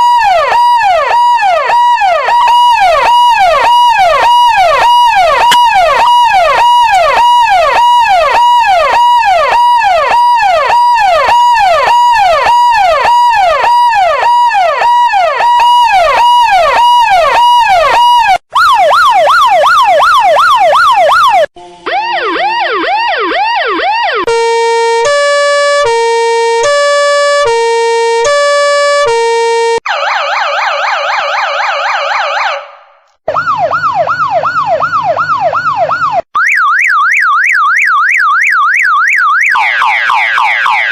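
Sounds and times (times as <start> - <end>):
electronic emergency sirens: 0.0 - 40.9.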